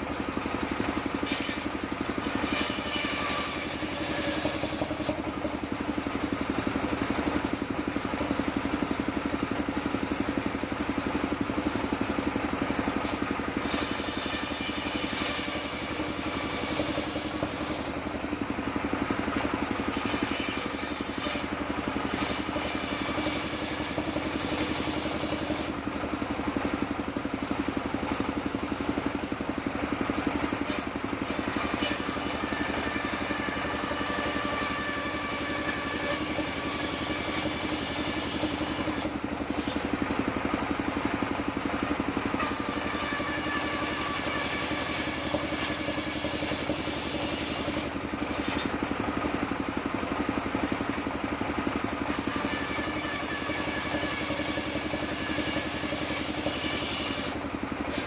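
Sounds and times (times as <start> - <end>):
circular saw cutting wood: 0.0 - 50.2, 51.9 - 58.0
stationary engine running: 0.0 - 58.0.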